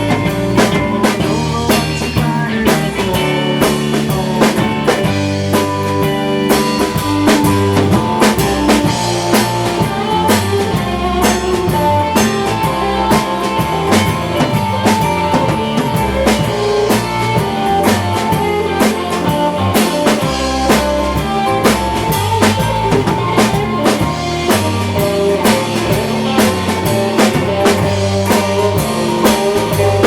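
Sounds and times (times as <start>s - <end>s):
rock band instrumental: 0.0s - 30.0s.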